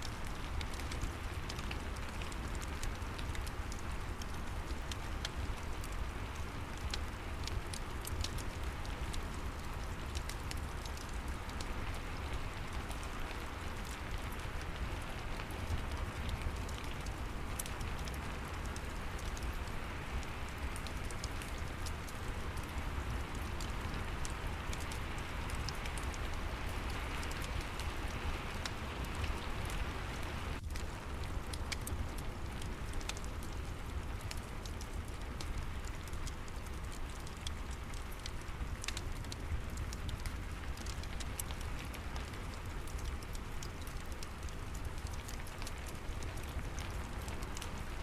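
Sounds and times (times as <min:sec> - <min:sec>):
fireplace crackling: 0:00.0 - 0:48.0
rain hiss: 0:00.0 - 0:48.0.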